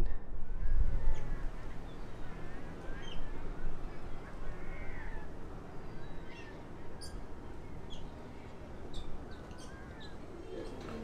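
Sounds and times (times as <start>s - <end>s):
low outdoor rush: 0.0s - 11.0s
birds chirping: 0.8s - 11.0s.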